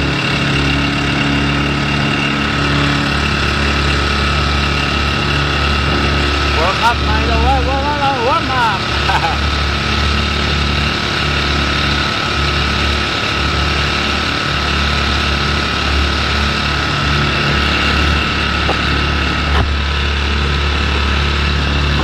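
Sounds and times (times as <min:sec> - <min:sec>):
small outboard motor humming: 0:00.0 - 0:22.0.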